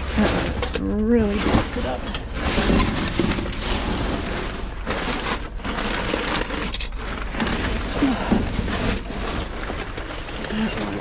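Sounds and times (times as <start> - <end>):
plastic and cardboard rustling: 0.0 - 11.0.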